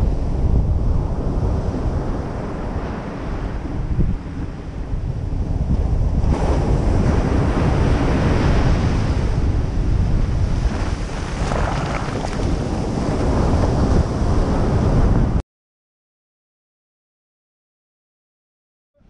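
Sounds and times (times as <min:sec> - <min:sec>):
surf breaking on a beach: 0:00.0 - 0:15.4
wind buffeting the microphone: 0:00.0 - 0:15.4.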